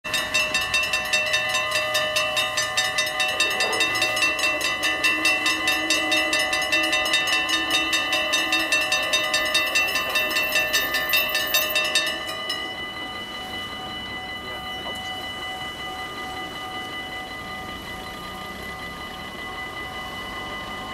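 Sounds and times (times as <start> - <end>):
level crossing bells ringing: 0.0 - 20.9.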